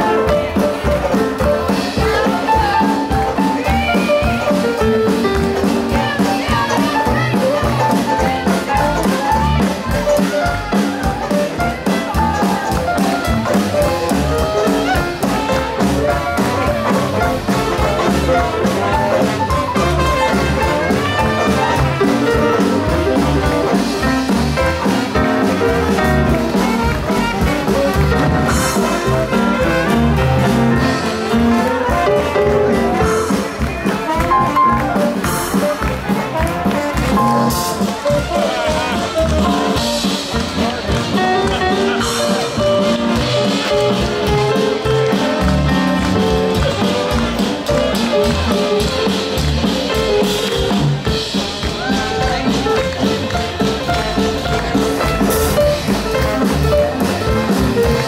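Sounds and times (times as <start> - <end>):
jazz band playing: 0.0 - 58.0
trombone: 0.0 - 58.0
trumpet: 0.0 - 58.0.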